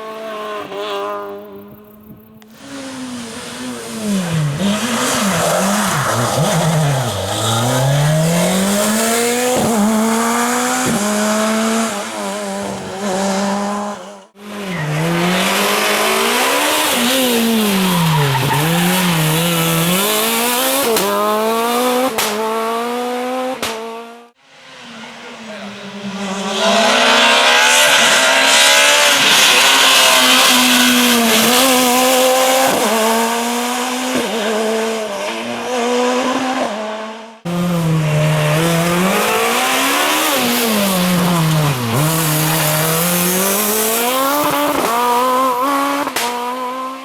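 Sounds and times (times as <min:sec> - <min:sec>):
tyre and road noise: 0:00.0 - 0:34.8, 0:37.4 - 0:47.0
rally car engine revving: 0:00.0 - 0:47.0.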